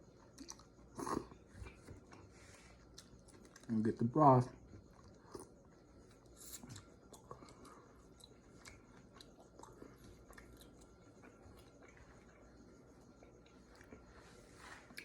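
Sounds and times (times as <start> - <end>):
chewing noodles: 0.2 - 3.8, 4.6 - 15.0.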